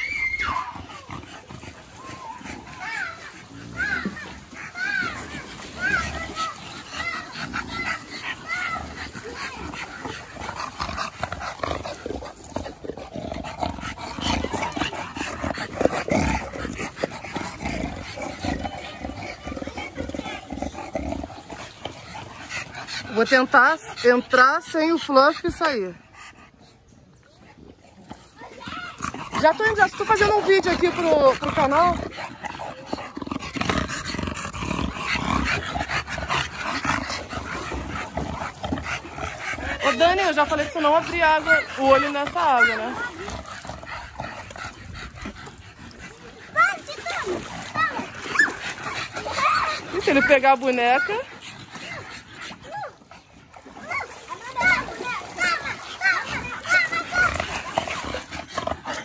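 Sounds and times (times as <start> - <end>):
dog making vocal noises: 0.0 - 59.0.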